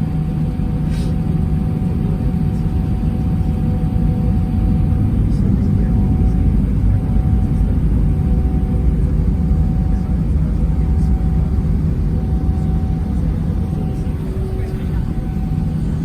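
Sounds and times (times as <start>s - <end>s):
jet engines rumbling: 0.0s - 16.0s
faint whining tones: 1.3s - 16.0s.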